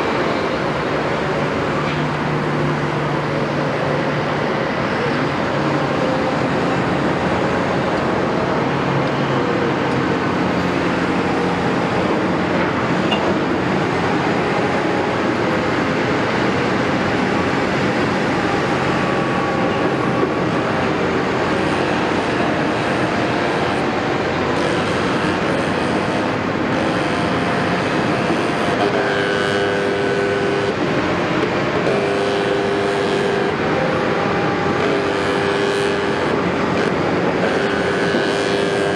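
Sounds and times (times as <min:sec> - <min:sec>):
excavator diesel engine: 0:00.0 - 0:38.9
hydraulic whine: 0:00.0 - 0:38.9.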